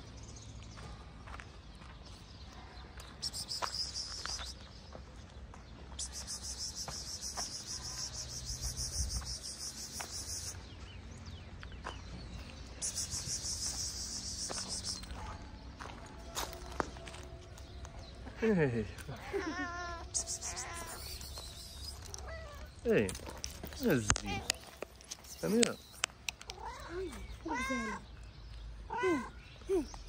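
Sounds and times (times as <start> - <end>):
footsteps on dirt: 0.1 - 28.8.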